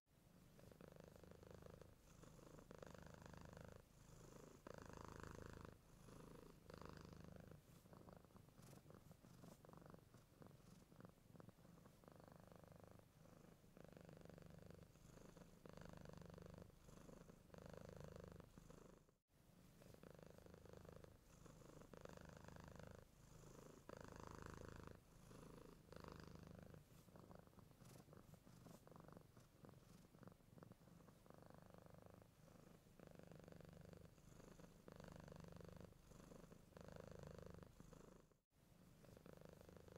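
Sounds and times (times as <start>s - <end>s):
cat purring: 0.2s - 39.9s.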